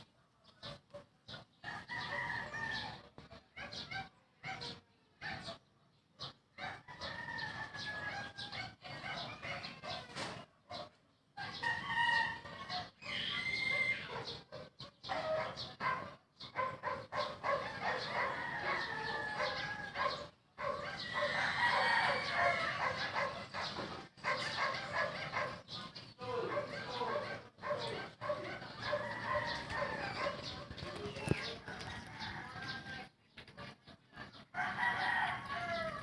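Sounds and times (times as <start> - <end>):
chickens calling: 0.0 - 36.0
roosters crowing: 1.5 - 3.9, 6.6 - 10.5, 11.4 - 14.4, 15.0 - 36.0.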